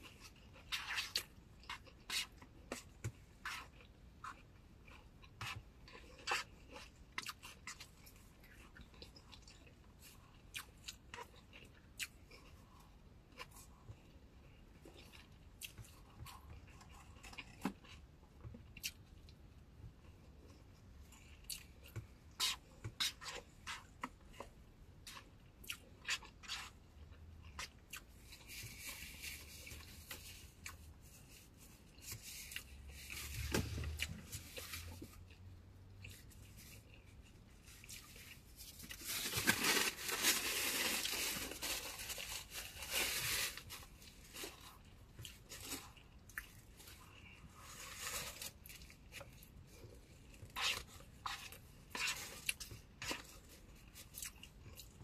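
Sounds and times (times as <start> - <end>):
person chewing food: 0.0 - 42.3, 43.8 - 55.0.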